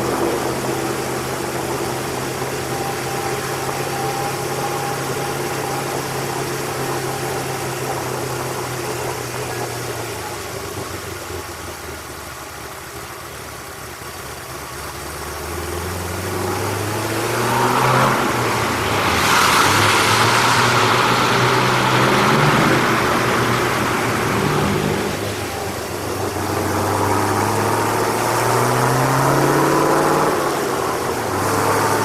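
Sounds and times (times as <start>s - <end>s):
loud rush of noise: 0.0s - 12.0s, 15.6s - 32.0s
car engine running: 0.0s - 32.0s.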